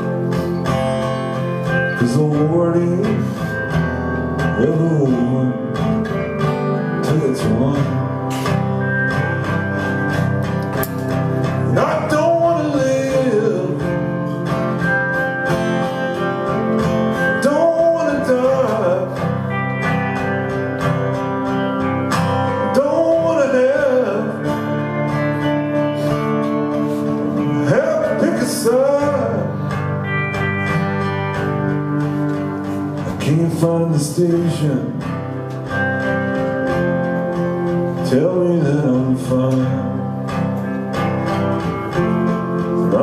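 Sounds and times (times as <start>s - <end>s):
acoustic guitar strumming chords: 0.0s - 43.0s
guitar lead line bending notes: 0.0s - 43.0s.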